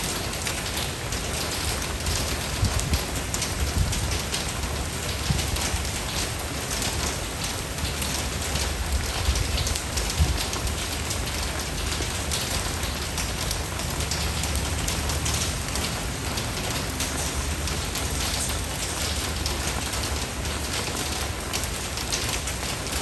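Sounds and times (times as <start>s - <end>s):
rain falling on a surface: 0.0s - 23.0s.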